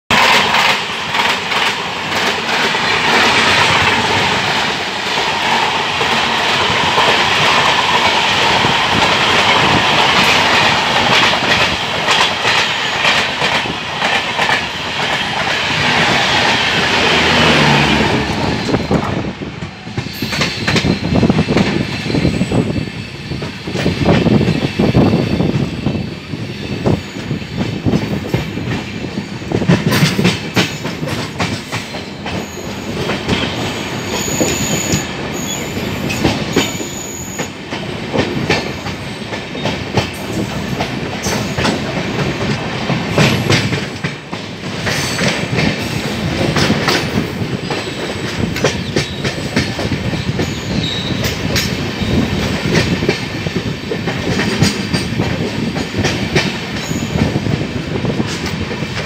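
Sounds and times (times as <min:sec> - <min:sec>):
passing train roar: 0:00.1 - 0:59.0
train wheels clattering over joints: 0:00.1 - 0:59.0.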